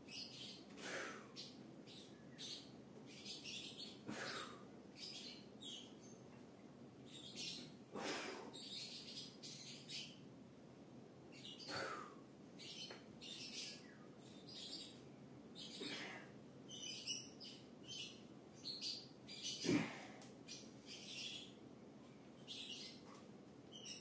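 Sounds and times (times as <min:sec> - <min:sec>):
birds chirping: 0:00.0 - 0:10.3, 0:11.3 - 0:24.0.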